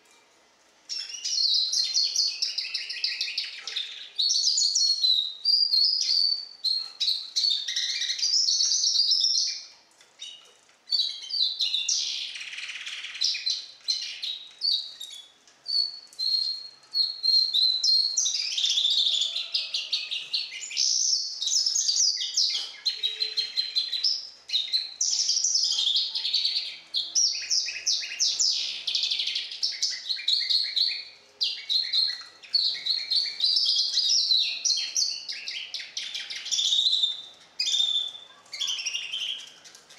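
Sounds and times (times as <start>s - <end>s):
bird singing chirps and trills: 0.9s - 39.9s.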